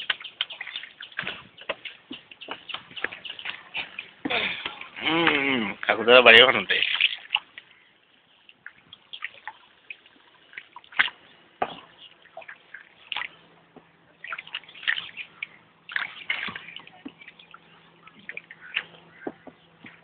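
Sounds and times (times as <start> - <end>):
small splashes and drips: 0.0 - 20.0
water lapping and sloshing: 0.0 - 20.0.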